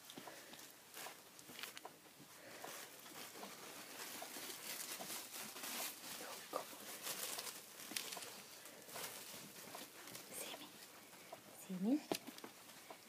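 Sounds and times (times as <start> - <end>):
puppies rustling in fabric bed: 0.0 - 13.0.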